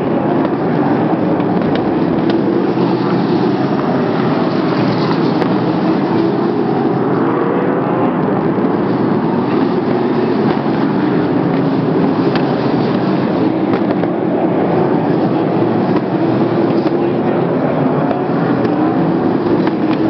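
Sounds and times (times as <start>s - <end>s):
sprint car engines racing: 0.0s - 20.0s.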